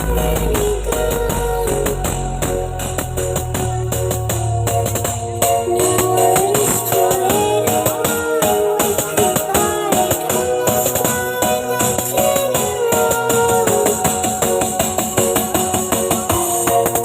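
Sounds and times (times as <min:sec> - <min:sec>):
loud music over sound system: 0:00.0 - 0:17.0.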